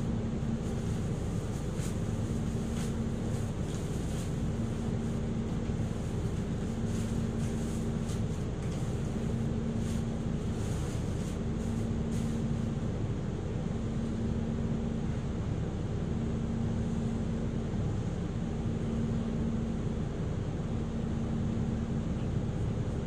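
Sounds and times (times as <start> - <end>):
bus interior drone: 0.0 - 23.0.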